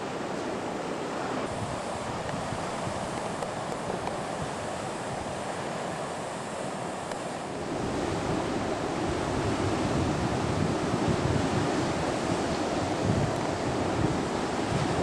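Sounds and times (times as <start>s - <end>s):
ocean surf breaking: 0.0s - 15.0s
wind buffeting microphone: 1.5s - 15.0s.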